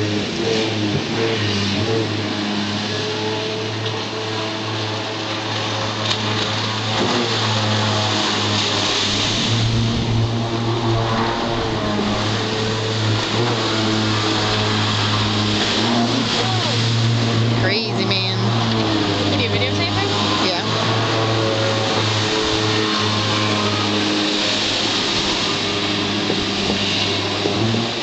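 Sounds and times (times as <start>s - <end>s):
jet ski engine revving: 0.0s - 28.0s.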